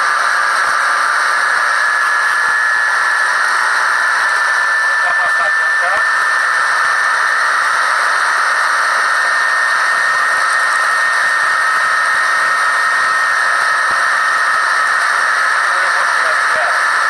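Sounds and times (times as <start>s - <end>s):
thin high whine: 0.0s - 17.0s.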